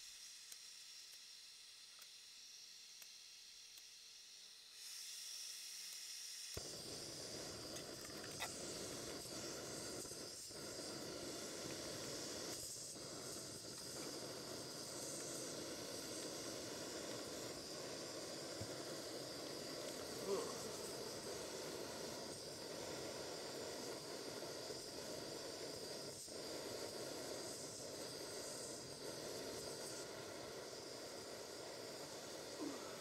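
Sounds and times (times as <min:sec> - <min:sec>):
camping stove gas hiss: 0:00.0 - 0:33.0
stove burner rushing hiss: 0:00.0 - 0:33.0.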